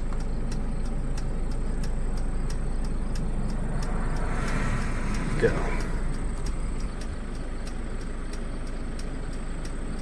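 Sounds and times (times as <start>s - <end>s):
car engine rumble and hiss: 0.0s - 10.0s
faint ticking: 0.0s - 10.0s.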